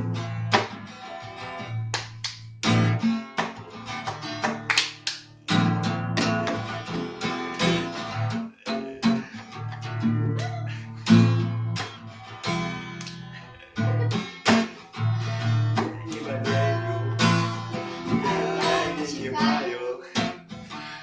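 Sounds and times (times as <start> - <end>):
acoustic guitar strumming chords: 0.0 - 4.7, 5.4 - 21.0.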